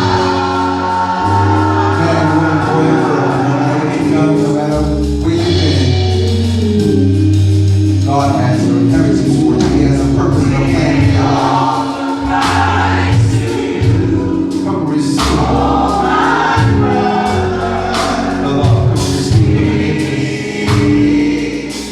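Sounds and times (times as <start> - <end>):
gospel choir singing: 0.0 - 7.4, 8.0 - 21.9
instrumental accompaniment: 0.0 - 21.9
low bass notes: 0.0 - 21.9.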